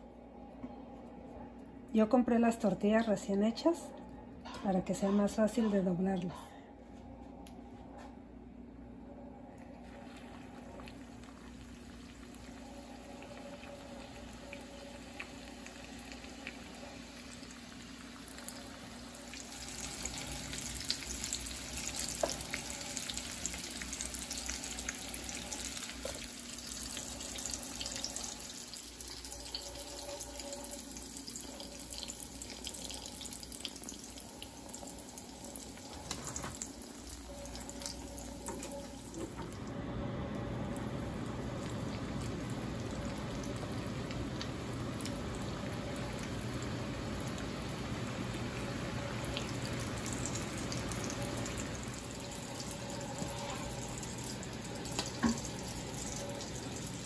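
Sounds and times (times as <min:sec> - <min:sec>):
oil sizzling and crackling: 0:09.9 - 0:39.5, 0:40.8 - 0:57.0.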